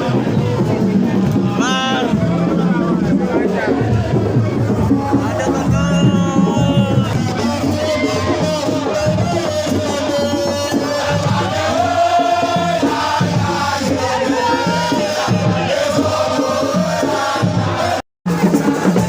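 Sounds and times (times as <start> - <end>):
low drums beating: 0.0 - 19.0
voices singing and chanting: 0.0 - 19.0.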